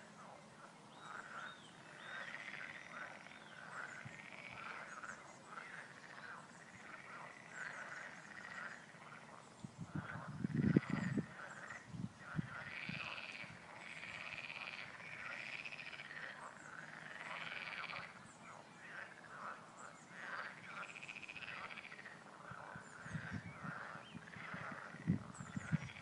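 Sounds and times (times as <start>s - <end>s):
frogs croaking: 0.0s - 26.0s.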